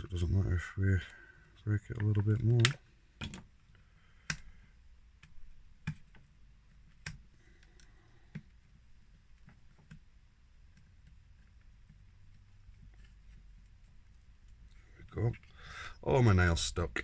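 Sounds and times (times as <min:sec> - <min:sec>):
faint plastic clicks: 0:01.0 - 0:15.6.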